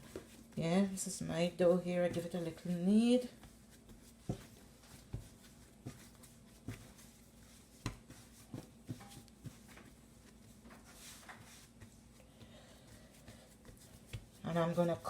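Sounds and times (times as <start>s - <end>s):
dough kneaded by hand thumps: 0.0s - 15.0s.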